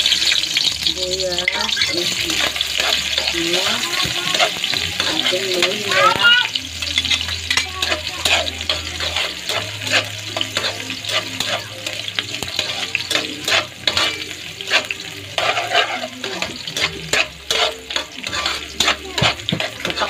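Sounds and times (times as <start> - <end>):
ginger and onion sizzling in oil: 0.0 - 20.0
spatula scraping and clacking on wok: 0.0 - 20.0.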